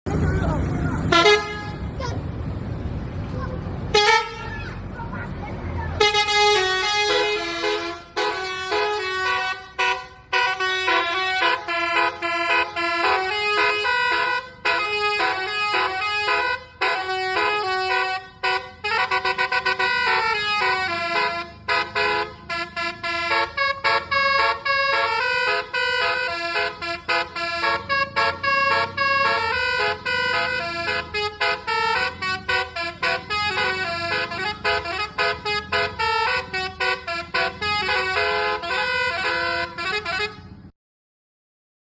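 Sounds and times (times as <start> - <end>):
multi-tone air horn melody: 1.1 - 1.9, 3.9 - 4.7, 6.0 - 40.7.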